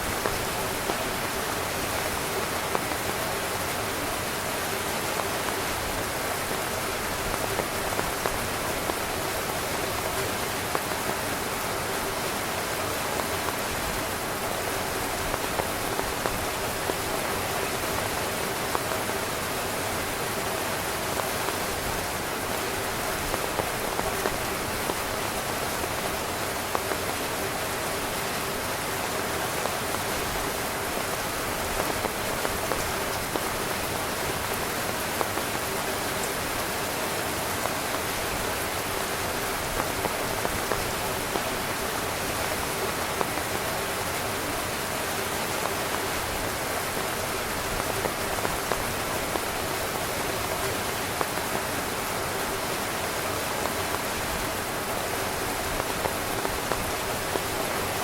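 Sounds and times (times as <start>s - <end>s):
rain on a tent: 0.0s - 58.0s
raindrops tapping fabric: 0.0s - 58.0s.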